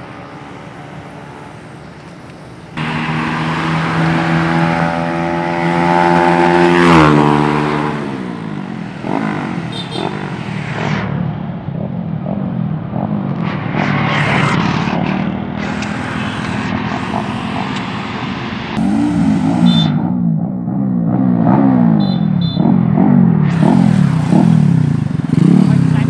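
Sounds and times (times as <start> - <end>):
motorcycle engine revving: 2.7 - 26.0.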